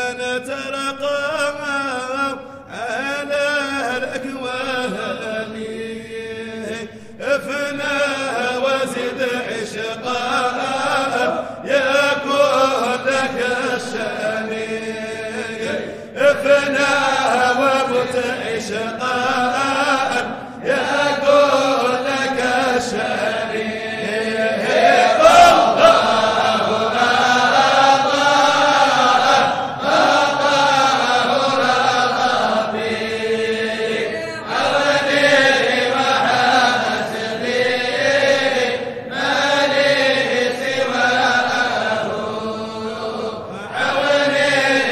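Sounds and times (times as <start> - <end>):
person chanting: 0.0 - 44.9.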